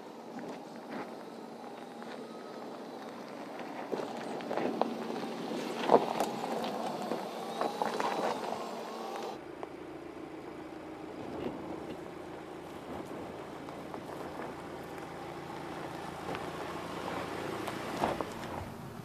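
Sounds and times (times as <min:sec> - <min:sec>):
vehicle running hum: 0:00.0 - 0:19.0
tyres crunching over loose rocks: 0:00.2 - 0:09.8, 0:11.1 - 0:18.7.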